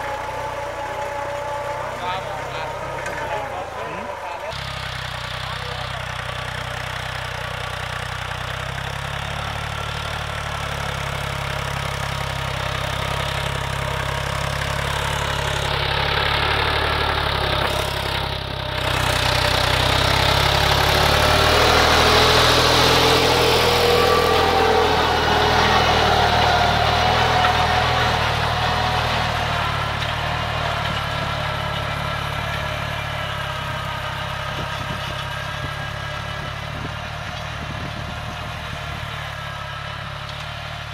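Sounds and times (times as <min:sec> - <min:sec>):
diesel tractor running: 0:00.0 - 0:40.9.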